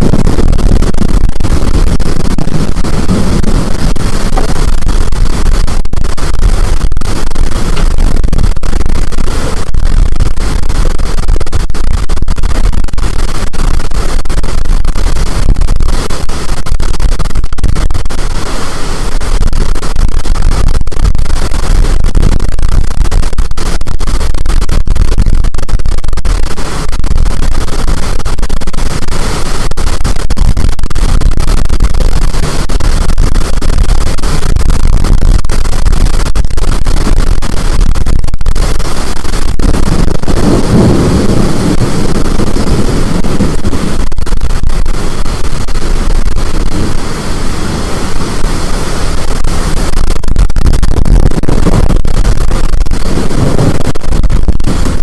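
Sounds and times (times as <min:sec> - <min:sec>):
storm wind buffeting microphone: 0:00.0 - 0:55.0.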